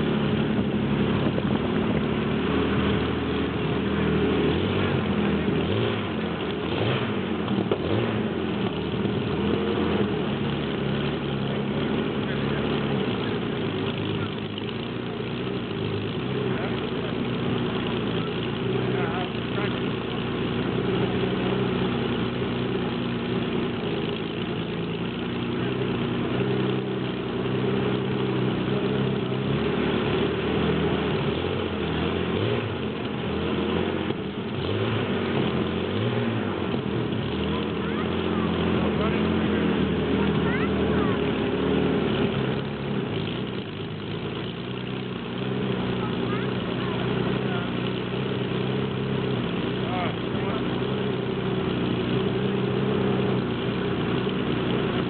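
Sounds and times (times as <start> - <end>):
aero engine fast idle: 0.0 - 55.0.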